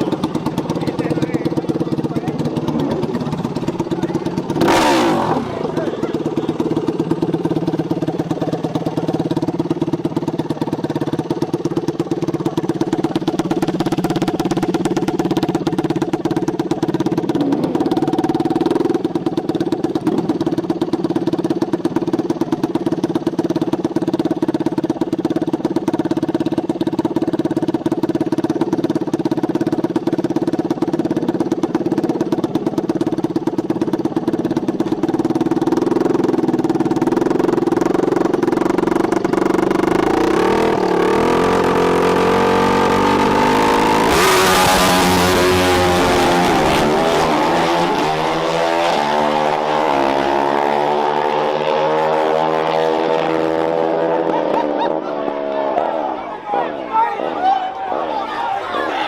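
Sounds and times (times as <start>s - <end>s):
dirt bike engine idling: 0.0s - 52.0s.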